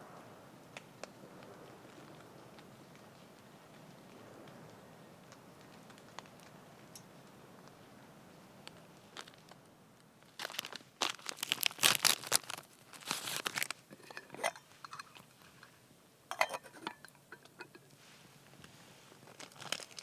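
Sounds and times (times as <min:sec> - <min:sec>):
crinkly material rustling: 0:01.9 - 0:15.8, 0:16.4 - 0:20.0.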